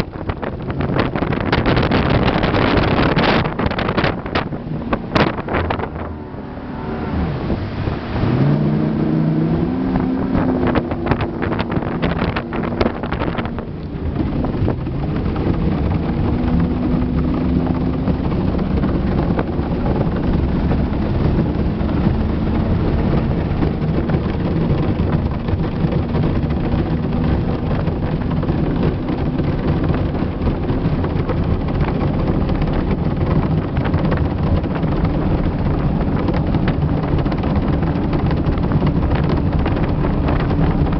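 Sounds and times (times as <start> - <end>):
motorboat engine running: 0.0 - 40.9
wind rumbling on microphone: 0.0 - 40.9.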